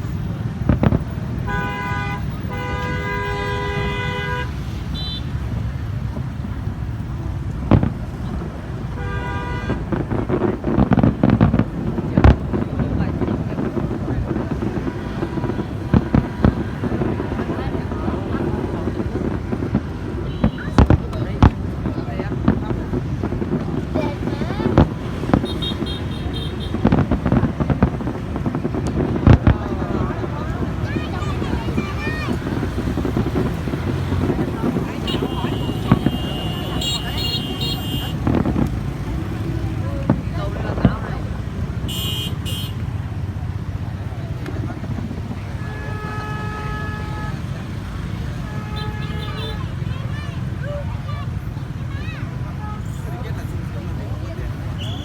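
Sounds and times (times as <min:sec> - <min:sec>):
crowd talking: 0:00.0 - 0:55.0
fireworks bangs: 0:00.0 - 0:55.0
fireworks crackling: 0:00.0 - 0:55.0.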